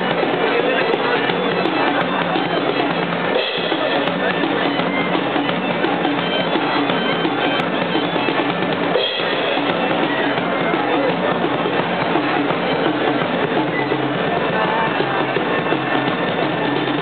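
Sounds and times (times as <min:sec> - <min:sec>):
bagpipe drone: 0:00.0 - 0:17.0
driving drumbeat: 0:00.0 - 0:17.0.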